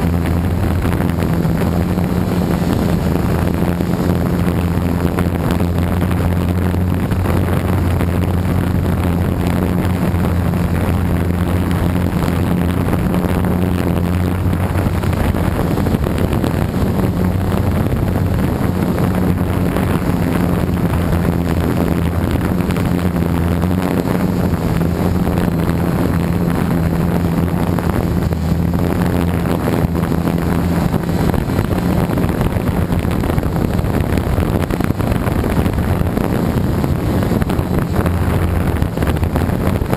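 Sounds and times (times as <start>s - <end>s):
quadcopter motors humming: 0.0s - 39.9s
wind noise on microphone: 0.0s - 39.9s.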